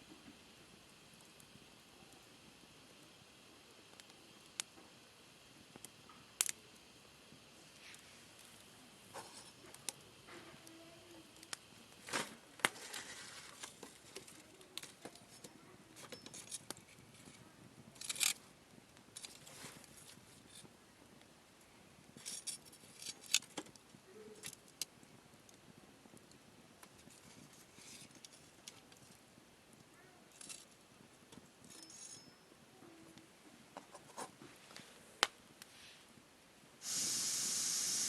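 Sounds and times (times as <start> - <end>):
faint hiss: 0.0 - 38.0
wood fire crackling: 0.0 - 38.0.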